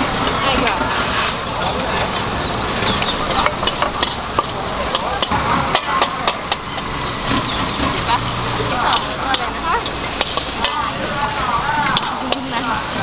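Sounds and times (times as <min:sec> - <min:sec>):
low engine rumble: 0:00.0 - 0:13.0
metal ladle scraping in wok: 0:00.0 - 0:13.0.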